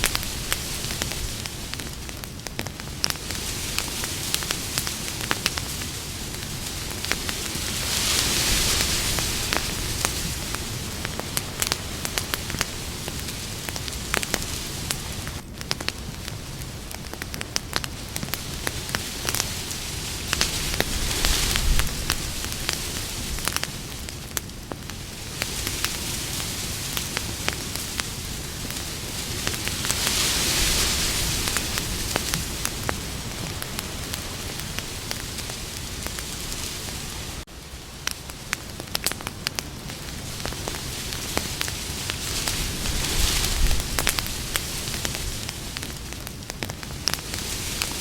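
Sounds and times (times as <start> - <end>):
campfire crackling and popping: 0.0 - 48.0
hiss of flames: 0.0 - 48.0.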